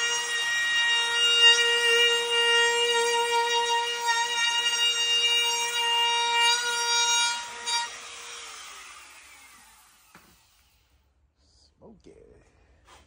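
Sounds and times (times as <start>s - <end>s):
power tool whining: 0.0s - 11.0s.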